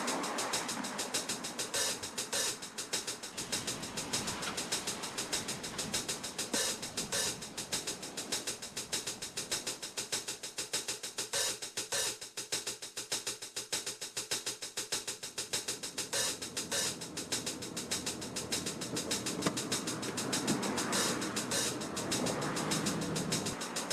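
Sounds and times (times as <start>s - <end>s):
cymbal or snare hits: 0.0s - 23.9s
drum kit music: 0.0s - 23.9s.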